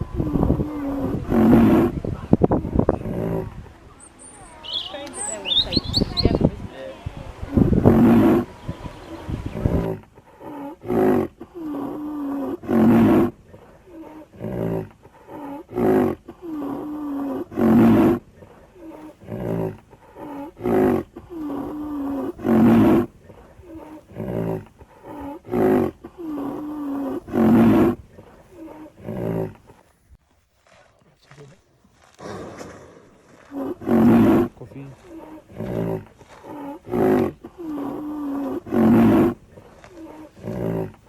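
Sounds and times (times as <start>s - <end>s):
lion roaring: 0.0s - 3.8s, 7.3s - 29.8s, 32.2s - 41.0s.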